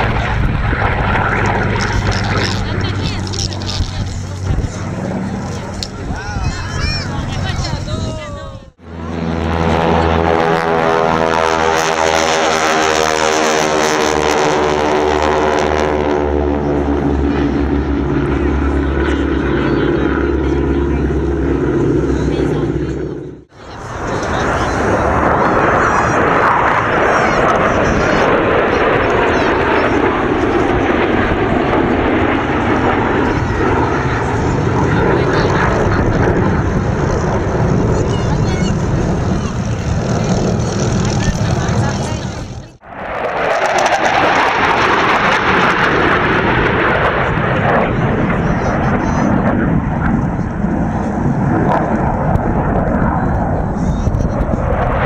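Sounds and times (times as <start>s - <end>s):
propeller aircraft flying past: 0.0s - 55.0s.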